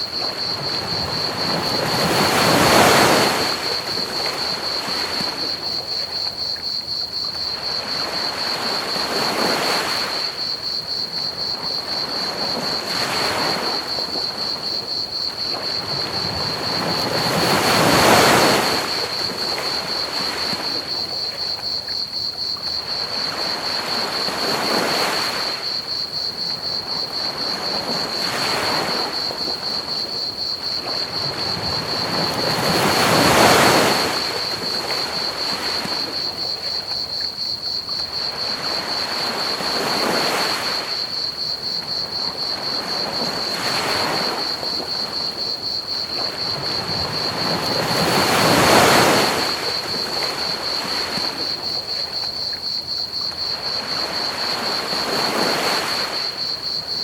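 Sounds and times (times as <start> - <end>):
high pulsing cricket chirp: 0.0 - 57.0
ocean waves washing onto beach: 0.0 - 57.0.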